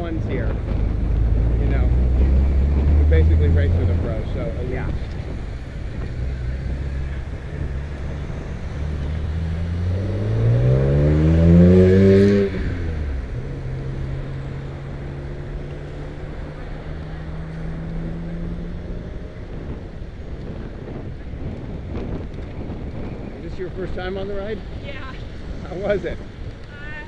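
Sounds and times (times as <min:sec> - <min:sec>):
constant low rumble: 0:00.0 - 0:11.4, 0:12.2 - 0:27.0
engine accelerating: 0:00.0 - 0:22.8.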